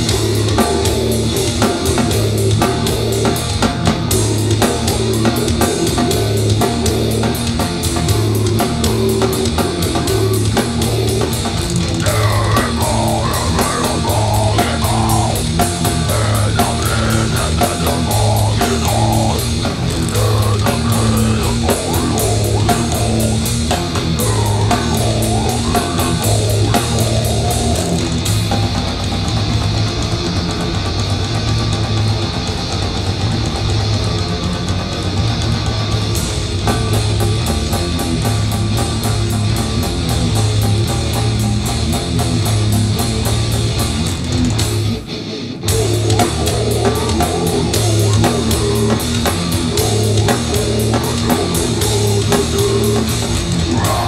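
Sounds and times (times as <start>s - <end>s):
distorted guitars and bass: 0.0s - 54.0s
fast dense drumming: 0.0s - 54.0s.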